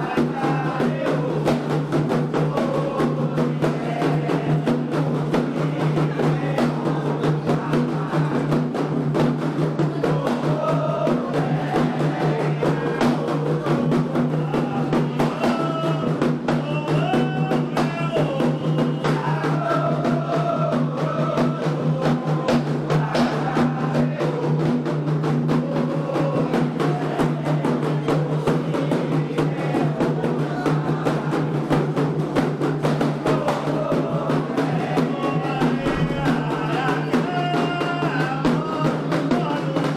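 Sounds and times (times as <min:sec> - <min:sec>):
hand drums beating: 0:00.0 - 0:39.9
voices singing: 0:00.0 - 0:39.9.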